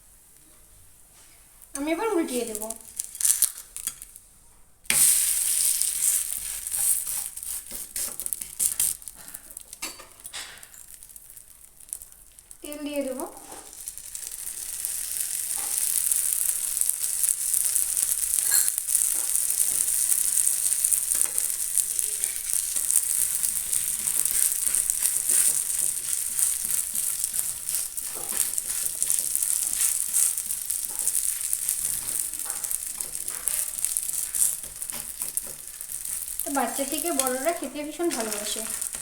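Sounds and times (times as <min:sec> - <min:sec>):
oil sizzling on a hot griddle: 0:00.0 - 0:39.0
faint crackles: 0:00.3 - 0:39.0.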